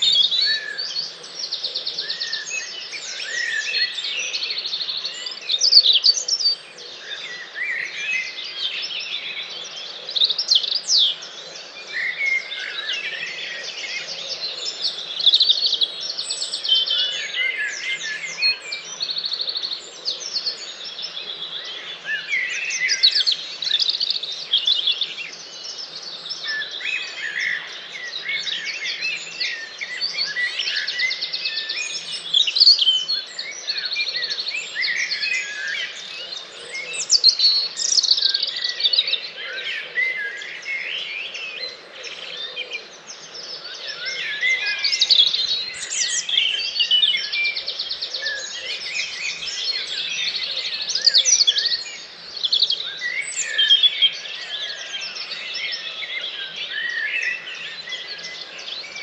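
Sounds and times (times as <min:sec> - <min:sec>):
songbirds singing and trilling: 0:00.0 - 0:59.0.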